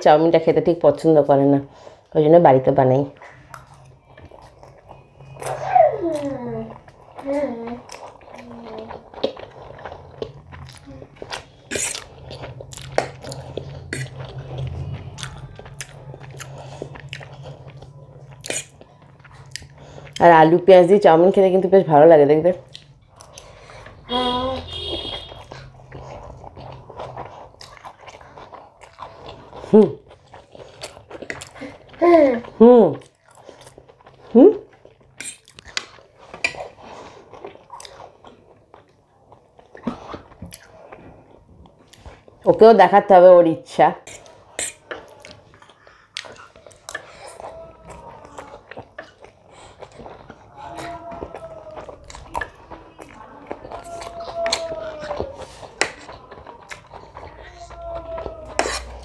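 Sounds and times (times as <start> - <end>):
chewing food with crunches: 2.8 - 59.0.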